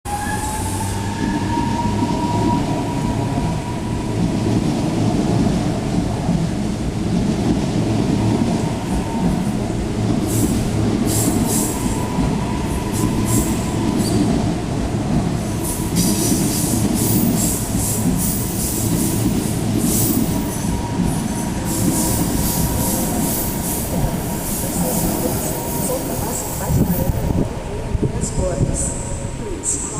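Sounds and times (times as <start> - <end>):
train cars rumbling: 0.1 - 29.9.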